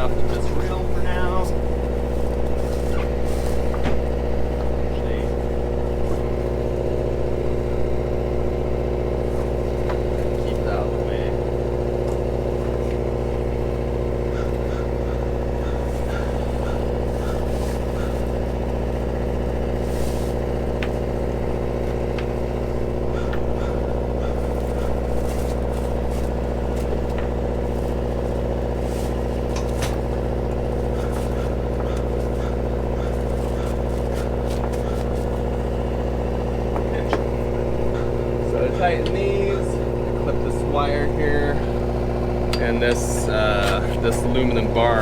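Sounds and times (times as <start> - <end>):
engine droning steadily: 0.0 - 45.0.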